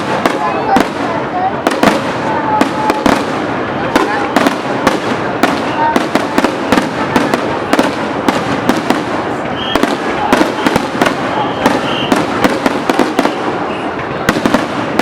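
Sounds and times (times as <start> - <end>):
background hubbub: 0.0 - 15.0
fireworks bangs and crackles: 0.0 - 15.0.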